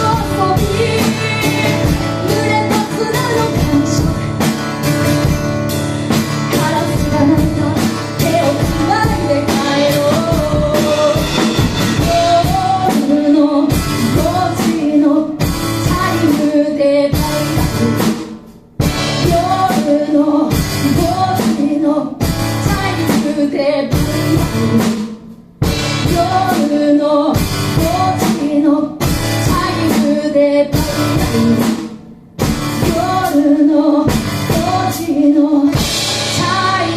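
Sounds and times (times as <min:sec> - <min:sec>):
woman singing: 0:00.0 - 0:04.6, 0:06.3 - 0:18.2, 0:19.0 - 0:25.2, 0:25.8 - 0:32.0, 0:32.6 - 0:36.9
drum kit: 0:00.0 - 0:36.9
guitar: 0:00.0 - 0:36.9.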